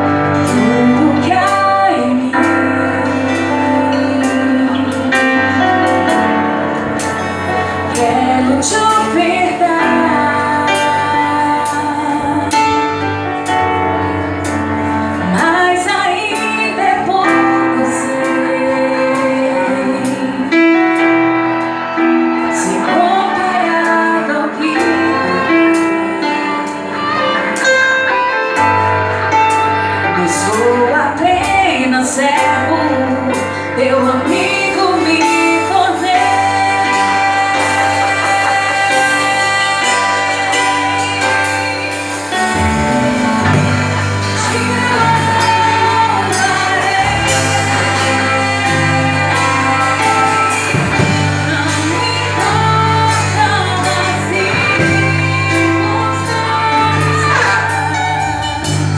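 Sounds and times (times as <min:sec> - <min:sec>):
bass: 0:00.0 - 0:58.9
guitar: 0:00.0 - 0:58.9
female voices singing worship song: 0:00.3 - 0:05.7, 0:07.8 - 0:13.1, 0:15.2 - 0:21.0, 0:22.4 - 0:28.1, 0:29.8 - 0:58.8.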